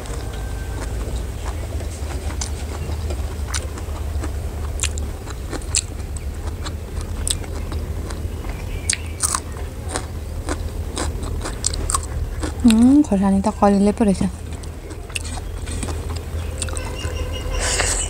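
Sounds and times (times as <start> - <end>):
person chewing: 0.0 - 13.1, 14.4 - 18.0
low hum: 0.0 - 18.0.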